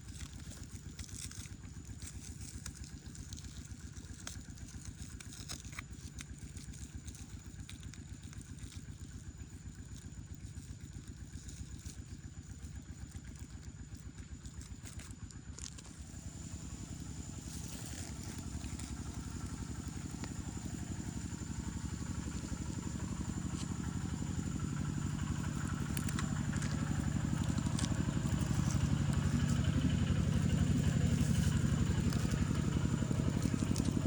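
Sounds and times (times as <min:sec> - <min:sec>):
small engine puttering: 0:00.0 - 0:34.0.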